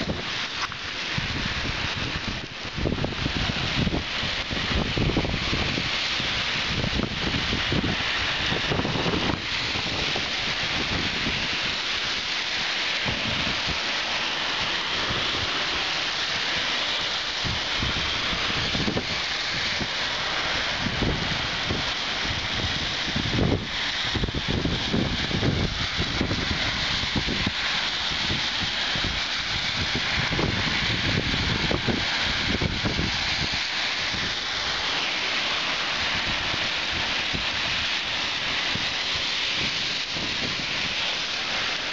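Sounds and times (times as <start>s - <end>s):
heavy rain pouring: 0.0s - 41.9s
wind gusts on microphone: 0.0s - 41.9s.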